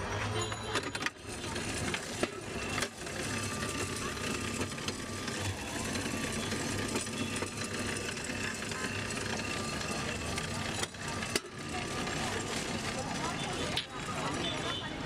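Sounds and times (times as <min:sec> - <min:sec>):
traffic: 0:00.0 - 0:15.0
voices: 0:00.2 - 0:15.0.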